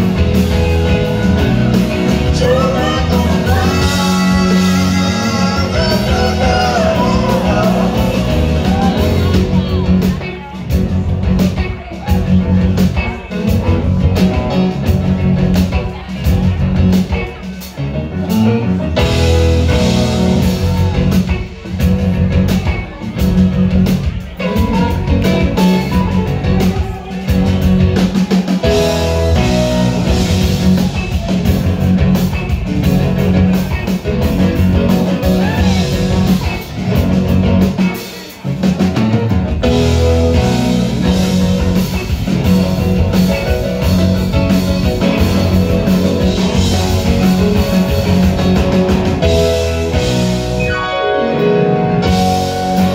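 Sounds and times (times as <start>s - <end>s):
drum kit: 0.0s - 52.9s
electric guitar: 0.0s - 52.9s
keyboards: 0.0s - 52.9s.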